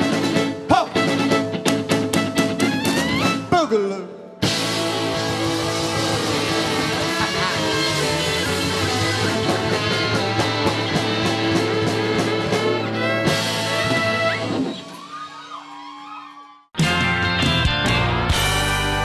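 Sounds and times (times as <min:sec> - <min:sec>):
band music with guitar: 0:00.0 - 0:15.2, 0:16.8 - 0:19.0.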